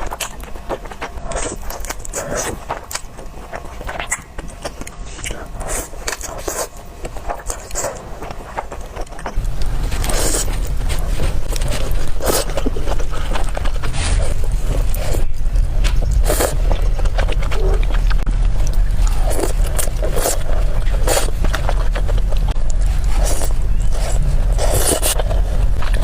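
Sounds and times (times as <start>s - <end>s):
chewing and slurping noodles: 0.0s - 26.0s
steady low hum: 0.0s - 26.0s.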